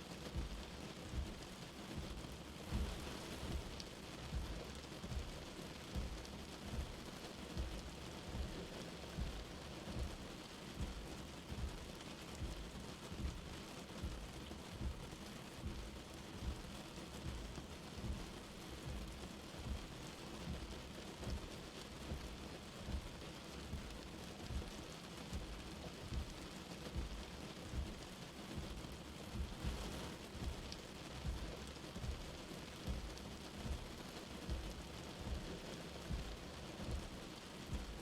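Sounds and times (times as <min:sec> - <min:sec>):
light rain falling: 0:00.0 - 0:38.0
dull low thuds: 0:00.3 - 0:07.0, 0:07.6 - 0:38.0.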